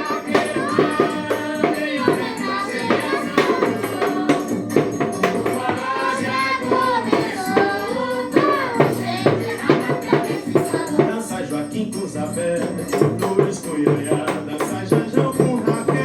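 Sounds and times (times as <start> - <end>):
music with singing voices: 0.0 - 16.0
tambourine shaking beat: 0.0 - 16.0.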